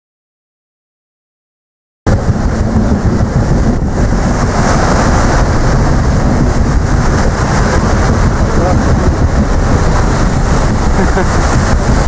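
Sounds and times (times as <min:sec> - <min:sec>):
sea rushing: 0:02.1 - 0:12.0
wind buffeting microphone: 0:02.1 - 0:12.0.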